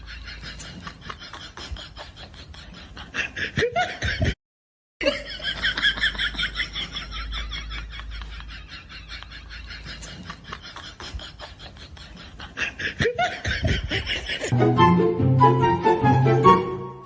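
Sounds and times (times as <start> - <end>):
rapid pulsing laughter: 0.0 - 4.4, 5.1 - 14.6.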